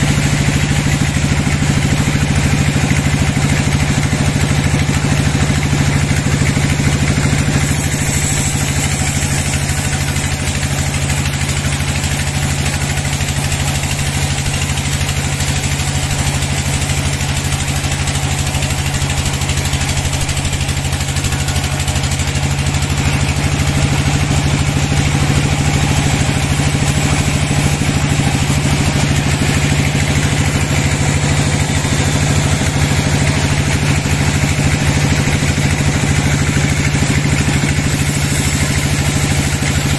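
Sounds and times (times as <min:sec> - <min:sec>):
band saw cutting timber: 0:00.0 - 0:39.9
loud mill drive drone: 0:00.0 - 0:39.9.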